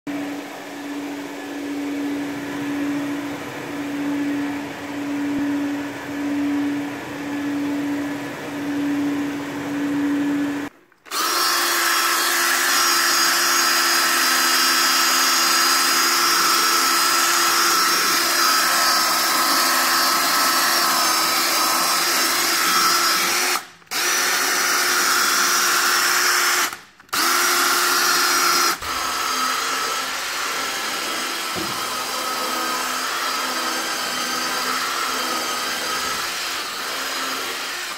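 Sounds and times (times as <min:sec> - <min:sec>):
rotary brush tool scrubbing carpet: 0:00.1 - 0:37.9.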